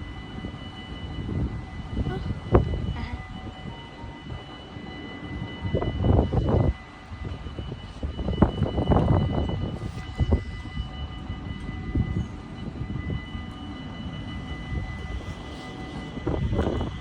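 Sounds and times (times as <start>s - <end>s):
train rumble and clatter: 0.0s - 17.0s
two-pitched high whine: 0.0s - 17.0s.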